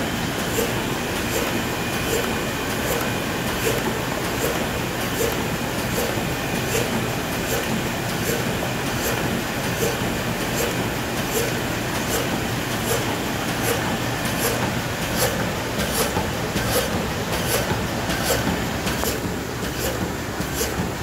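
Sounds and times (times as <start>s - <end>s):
laminator machine running: 0.0s - 21.0s.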